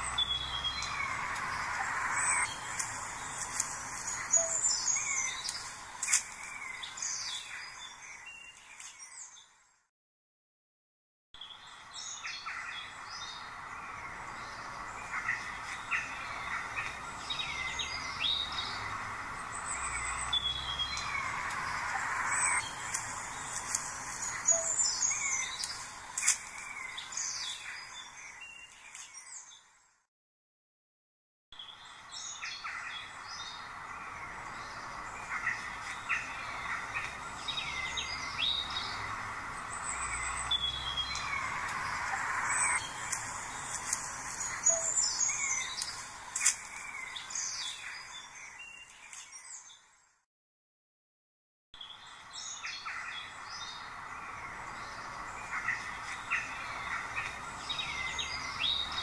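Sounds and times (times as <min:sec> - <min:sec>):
birds chirping and singing: 0:00.0 - 0:09.6, 0:11.4 - 0:29.7, 0:31.6 - 0:49.9, 0:51.8 - 0:59.0.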